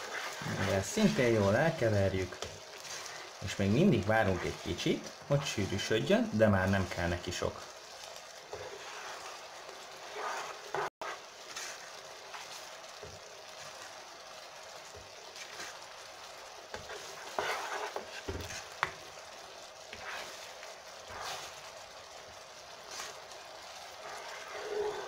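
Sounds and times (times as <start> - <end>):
glaze bubbling and sizzling in pan: 0.0 - 25.0
spoon stirring and scraping pan: 0.0 - 25.0.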